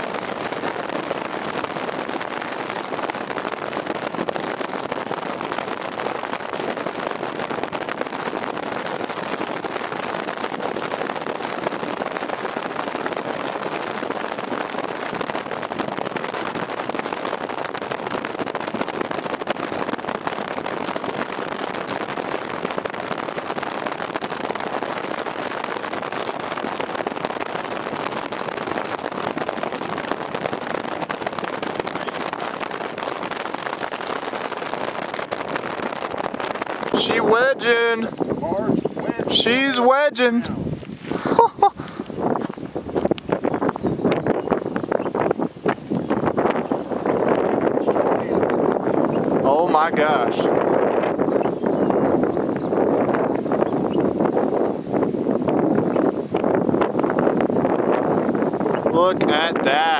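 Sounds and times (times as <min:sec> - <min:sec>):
dense fine crackle: 0:00.0 - 0:59.9.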